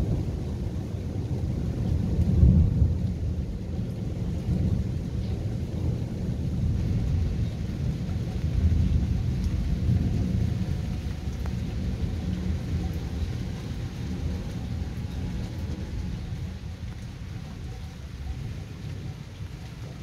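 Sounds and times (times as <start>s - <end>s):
rolling thunder: 0.0s - 20.0s.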